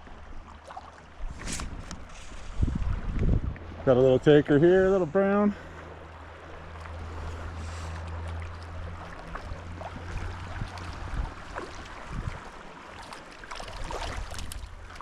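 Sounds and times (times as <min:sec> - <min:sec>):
small splashes and knocks: 0:00.0 - 0:03.8, 0:06.7 - 0:15.0
creek water running: 0:00.0 - 0:15.0.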